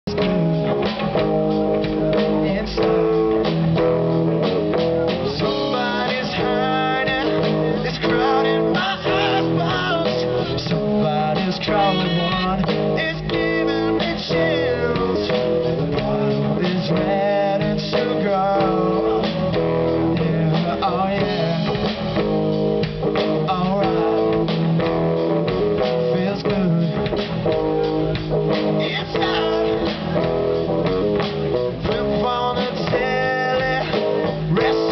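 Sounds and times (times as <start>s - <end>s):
drum kit: 0.0s - 34.9s
electric guitar: 0.0s - 34.9s.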